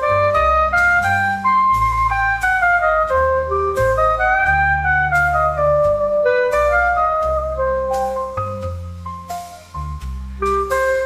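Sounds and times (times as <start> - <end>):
orchestral music: 0.0 - 11.0.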